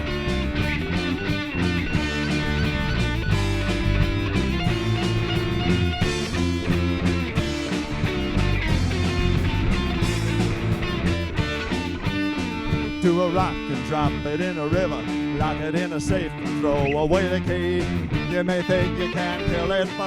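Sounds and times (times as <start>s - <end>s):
bass guitar: 0.0s - 20.0s
drums playing steady beat: 0.0s - 20.0s
electric guitars: 0.0s - 20.0s.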